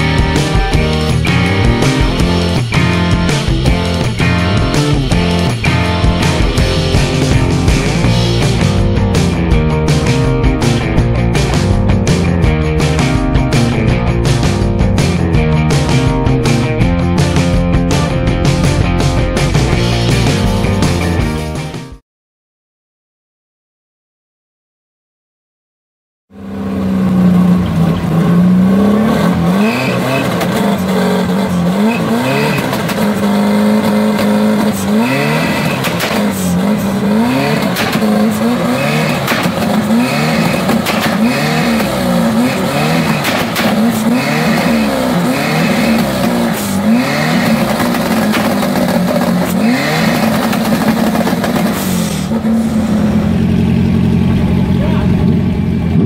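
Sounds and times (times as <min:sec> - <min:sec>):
engine revving: 0:00.0 - 0:22.0, 0:26.3 - 0:56.0.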